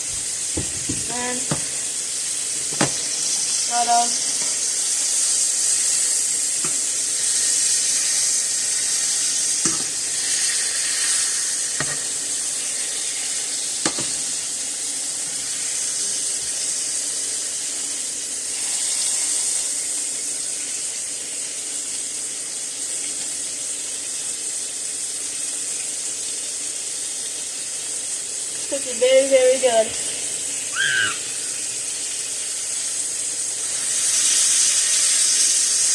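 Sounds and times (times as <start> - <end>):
steak sizzling in a pan: 0.0 - 35.9.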